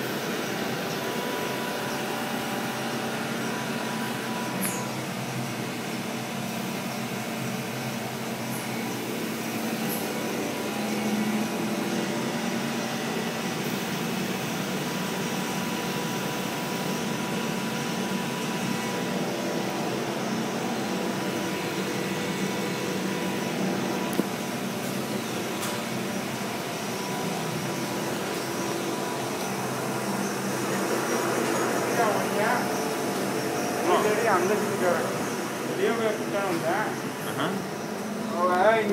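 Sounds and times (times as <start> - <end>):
air handling and machinery noise: 0.0 - 38.9.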